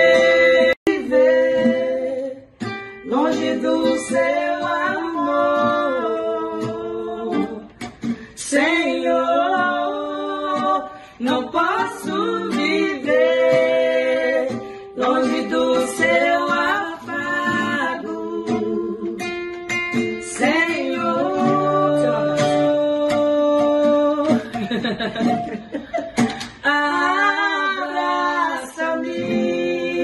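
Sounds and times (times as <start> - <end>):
acoustic guitar: 0.0 - 30.0
woman singing: 0.0 - 30.0.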